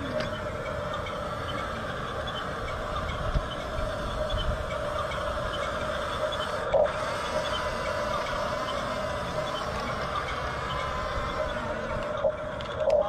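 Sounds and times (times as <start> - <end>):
faint regular ticking: 0.0 - 13.0
toy bulldozer motor whine: 0.0 - 13.0.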